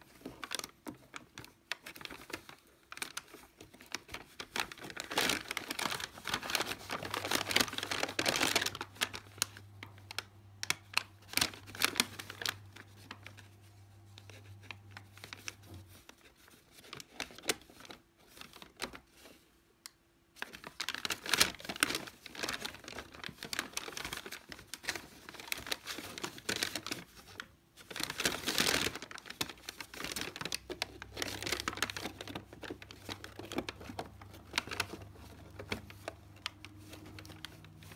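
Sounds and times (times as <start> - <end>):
paper bag crinkling and rustling: 0.0 - 19.5, 20.4 - 37.9.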